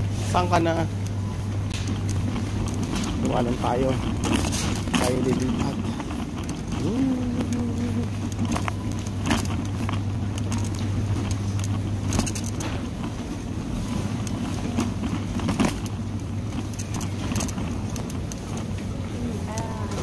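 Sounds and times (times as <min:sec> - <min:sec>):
cart clicks and rattles: 0:00.0 - 0:20.0
shopping cart wheels rumbling: 0:00.0 - 0:20.0.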